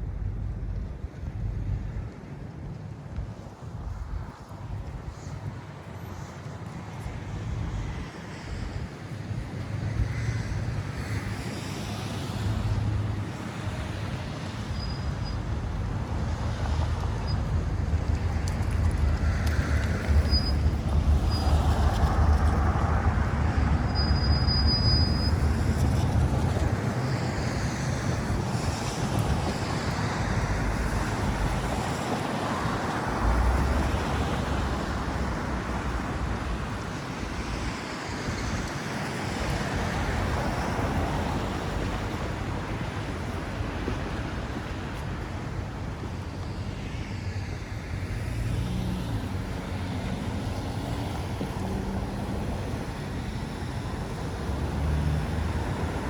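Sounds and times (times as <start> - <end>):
rumble of passing vehicles: 0.0 - 56.0
traffic noise: 0.0 - 56.0.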